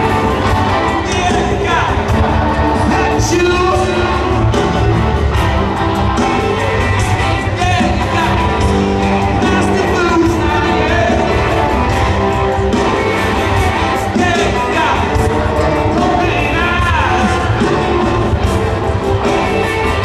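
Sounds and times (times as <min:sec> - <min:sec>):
man singing lead vocals: 0:00.0 - 0:05.4, 0:06.1 - 0:11.8, 0:12.8 - 0:18.5
live rock band playing: 0:00.0 - 0:20.0.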